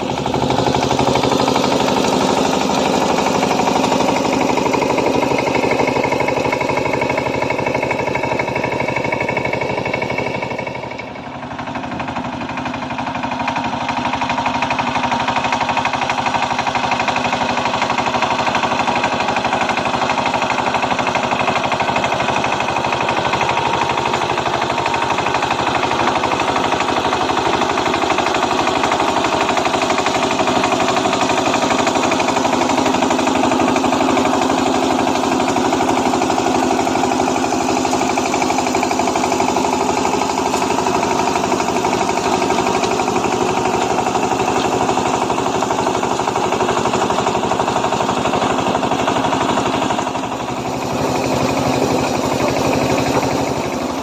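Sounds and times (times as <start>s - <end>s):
diesel tiller engine knocking: 0.0s - 54.0s.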